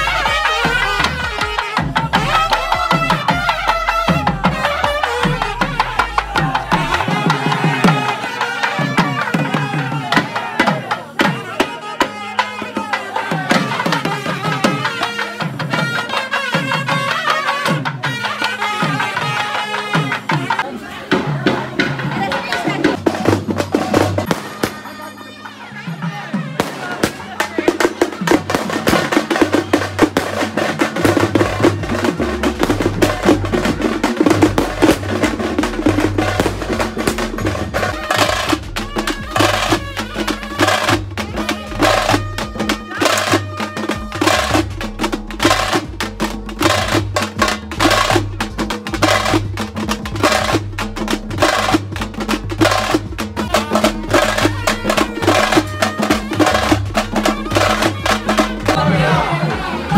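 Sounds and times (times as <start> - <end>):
held high note: 0.0 - 20.7, 21.3 - 49.5
drums beaten fast: 0.0 - 25.1, 25.9 - 59.9.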